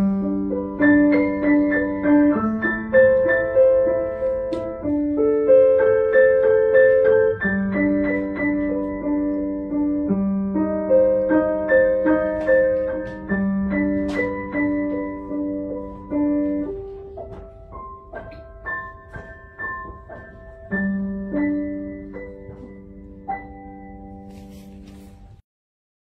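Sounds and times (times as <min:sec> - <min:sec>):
grand piano playing: 0:00.0 - 0:25.4.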